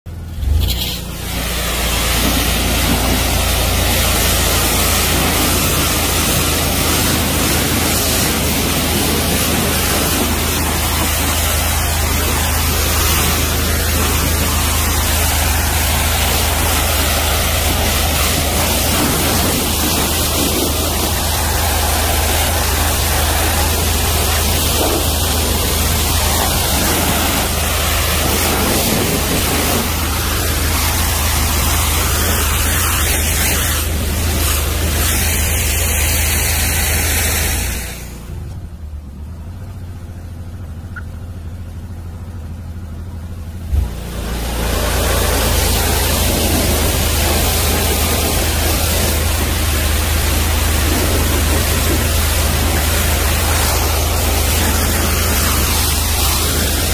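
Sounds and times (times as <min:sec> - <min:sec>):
pressure washer hum: 0:00.1 - 0:56.9
water jet hissing on metal: 0:00.4 - 0:38.4, 0:43.8 - 0:56.9.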